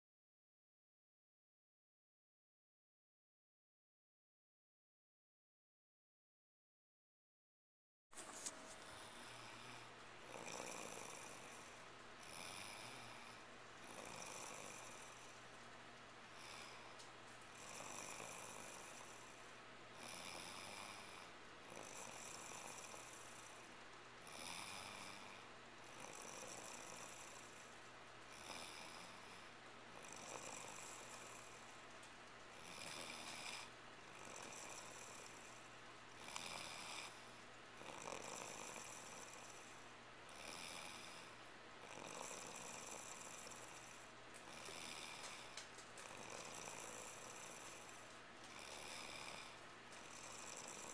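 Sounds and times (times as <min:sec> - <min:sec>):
woman snoring softly: 0:08.4 - 0:50.9.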